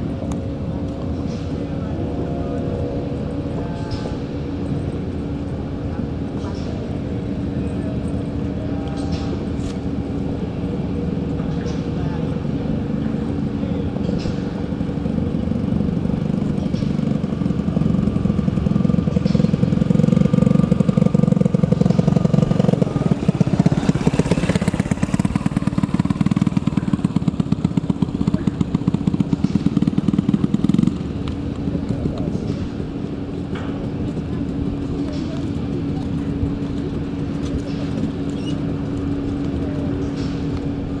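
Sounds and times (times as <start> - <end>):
boat engine puttering: 0.0 - 41.0.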